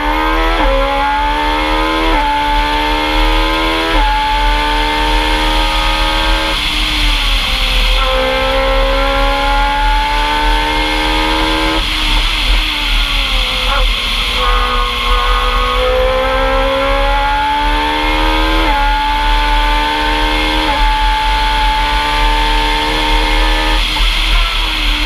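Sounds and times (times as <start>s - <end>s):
racing car engine at full throttle: 0.0s - 25.0s.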